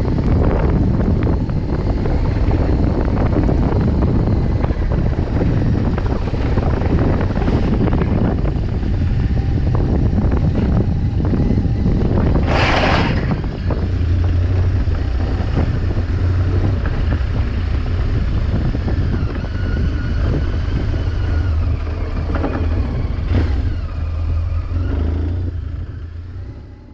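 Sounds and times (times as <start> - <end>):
motorcycle engine rumble: 0.0 - 26.9
wind and road noise: 0.0 - 26.9.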